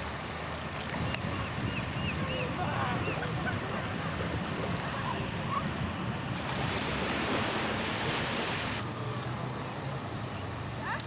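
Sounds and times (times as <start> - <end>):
wind noise on microphone: 0.0 - 9.0
sea waves washing: 0.0 - 11.0.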